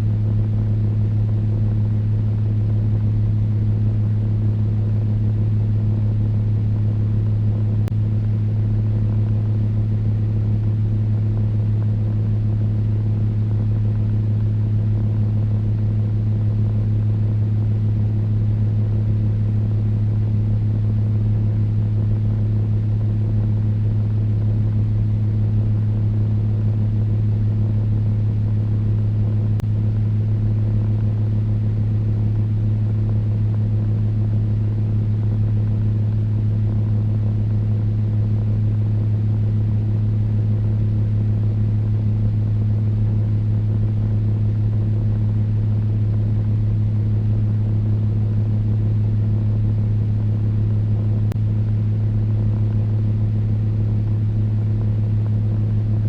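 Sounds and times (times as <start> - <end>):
electric fan motor hum: 0.0 - 56.0.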